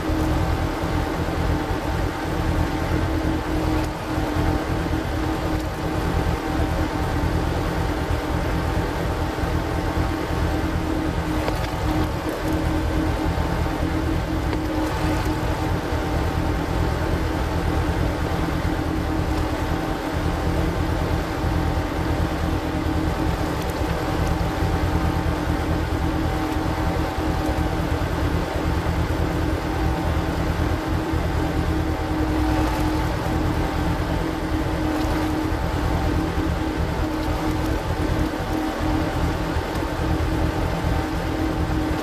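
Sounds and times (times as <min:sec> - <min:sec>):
engine droning: 0:00.0 - 0:42.0.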